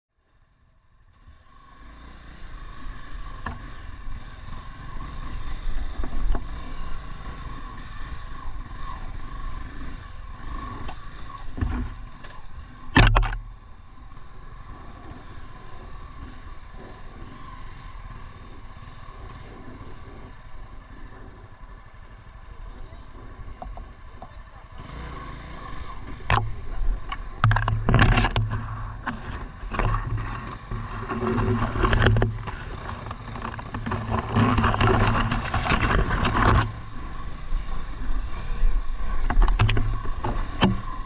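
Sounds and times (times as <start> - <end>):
motorcycle engine under load: 0.6 - 41.0.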